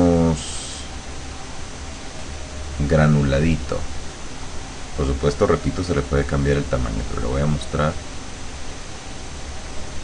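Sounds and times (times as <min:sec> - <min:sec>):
low hum: 0:00.0 - 0:10.0
microphone hiss: 0:00.0 - 0:10.0.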